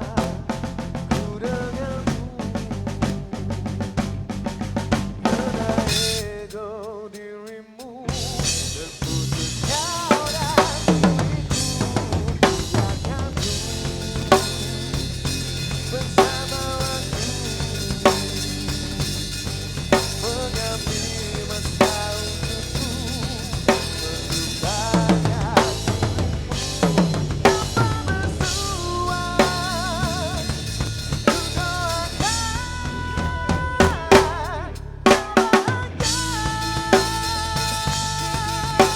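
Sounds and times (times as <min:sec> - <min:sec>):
rock band playing: 0:00.0 - 0:06.4, 0:08.1 - 0:38.9
drum kit: 0:00.0 - 0:38.9.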